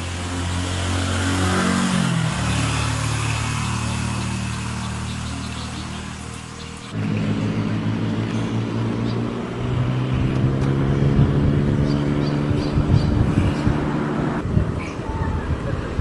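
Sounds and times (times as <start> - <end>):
vehicle engine running: 0.0 - 14.6.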